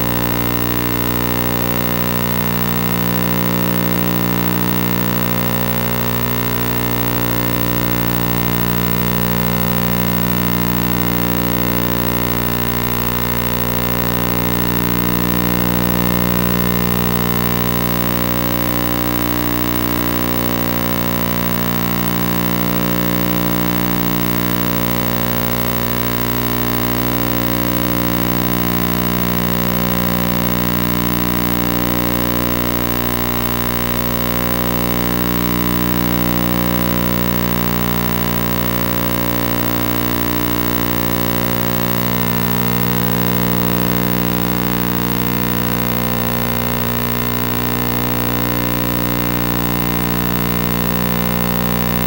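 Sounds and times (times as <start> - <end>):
electronic drone: 0.0 - 52.0.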